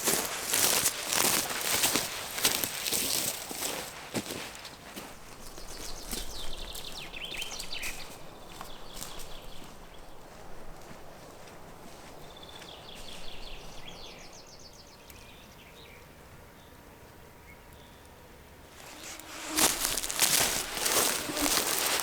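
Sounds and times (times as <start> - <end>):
close rustling and crunching: 0.0 - 14.4, 18.6 - 22.0.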